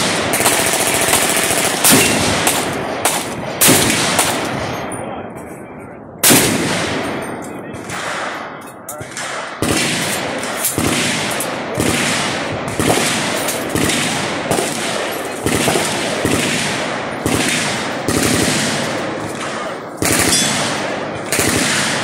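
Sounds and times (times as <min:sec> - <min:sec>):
loud gunshots with echo: 0:00.0 - 0:04.9, 0:06.2 - 0:22.0.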